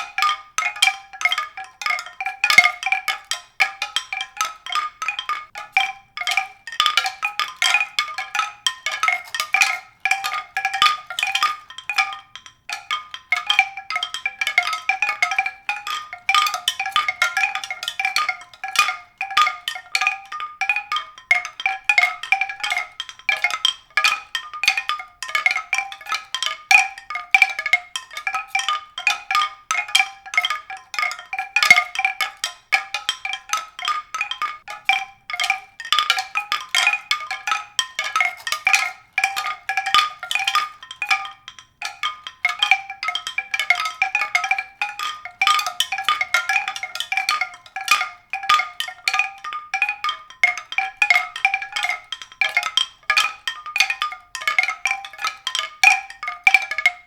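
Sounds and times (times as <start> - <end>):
mallet percussion music: 0.0 - 57.0.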